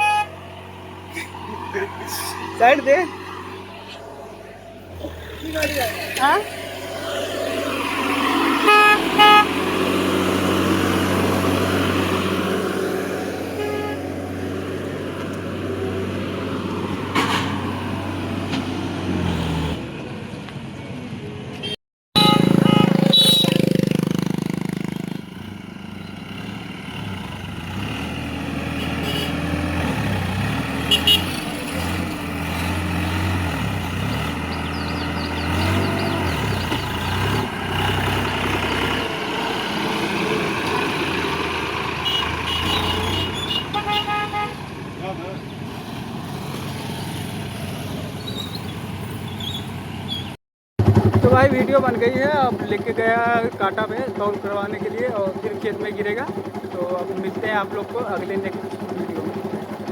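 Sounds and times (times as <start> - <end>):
tractor diesel engine running: 0.0 - 19.7, 22.4 - 46.7, 50.8 - 59.9.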